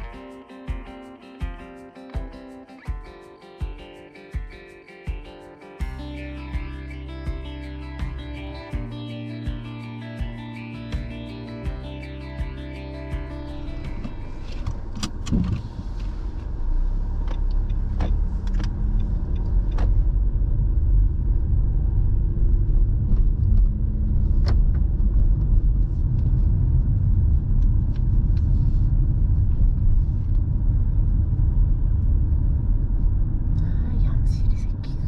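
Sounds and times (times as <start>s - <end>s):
car road noise rumble: 5.8s - 35.0s.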